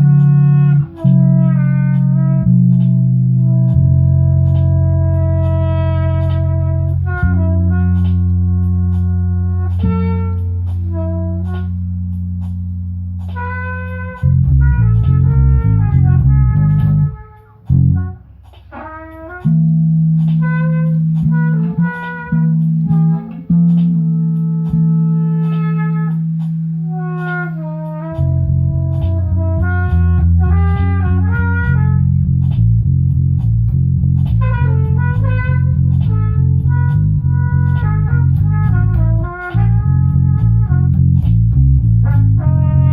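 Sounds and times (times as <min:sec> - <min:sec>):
bass line: 0:00.0 - 0:42.9
sliding lead melody: 0:00.0 - 0:42.9.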